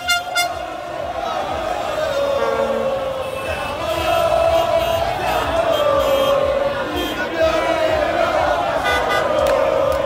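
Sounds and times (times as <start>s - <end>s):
crowd chanting and singing: 0.0s - 10.0s.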